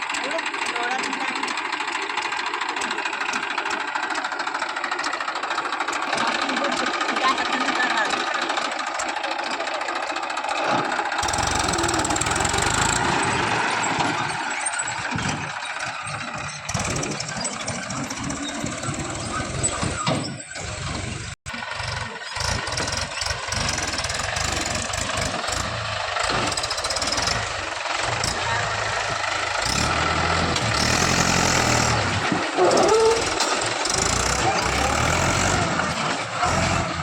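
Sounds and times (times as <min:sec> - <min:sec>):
tractor engines under load: 0:00.0 - 0:37.0.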